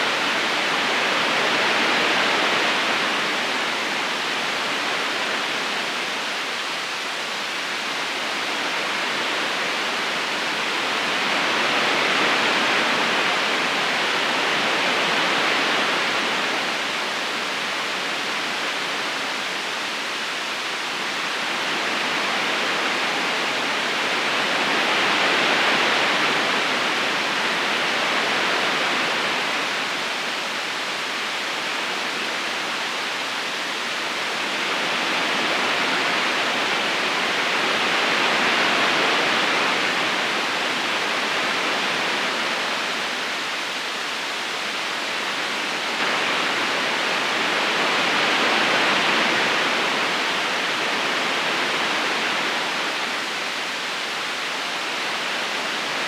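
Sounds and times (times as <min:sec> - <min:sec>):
river current rushing: 0:00.0 - 0:56.0.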